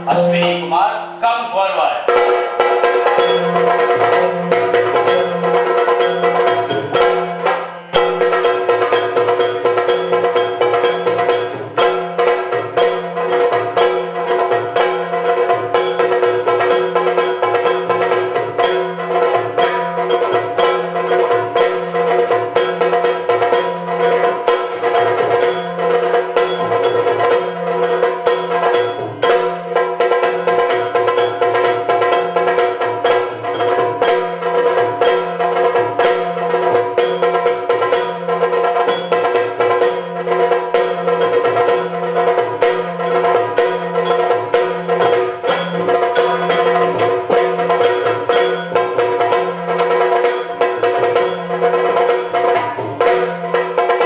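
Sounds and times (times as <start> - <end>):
fast drumming: 0.0 - 54.0.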